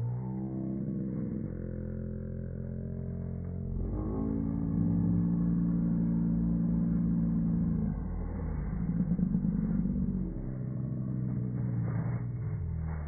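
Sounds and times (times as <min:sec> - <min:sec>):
rough low rumbling: 0:00.0 - 0:13.0
slowed-down deep drone: 0:00.0 - 0:13.0.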